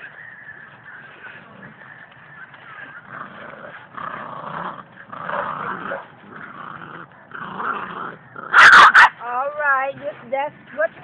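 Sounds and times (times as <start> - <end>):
puppies growling: 0.0 - 9.2.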